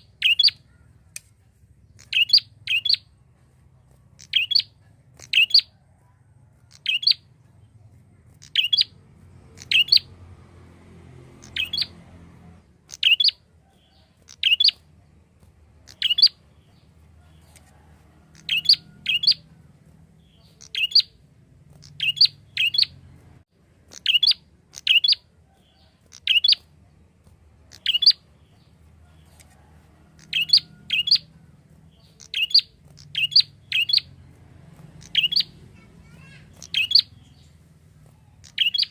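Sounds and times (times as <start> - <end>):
bird chirping in pairs: 0.0 - 5.8, 6.6 - 10.2, 11.4 - 12.0, 12.6 - 38.9.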